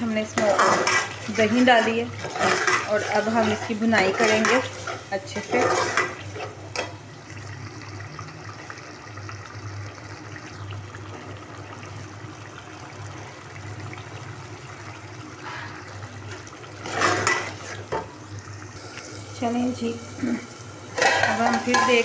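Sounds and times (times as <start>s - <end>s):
curry sizzling and bubbling in pot: 0.0s - 22.0s.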